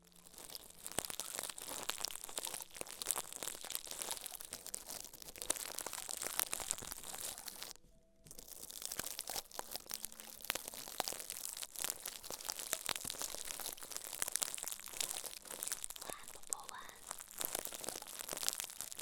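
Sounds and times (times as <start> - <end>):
crinkling and crackling close up: 0.0 - 19.0.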